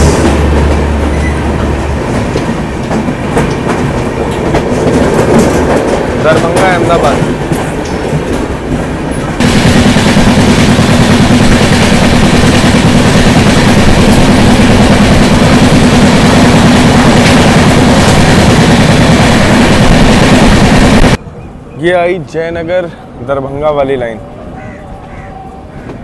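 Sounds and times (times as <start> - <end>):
train wheels rushing on track: 0.0 - 21.4.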